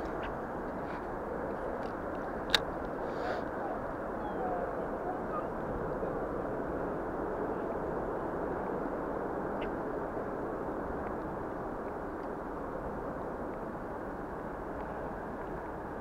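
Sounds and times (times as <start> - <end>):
muffled low outdoor rumble: 0.0 - 16.0.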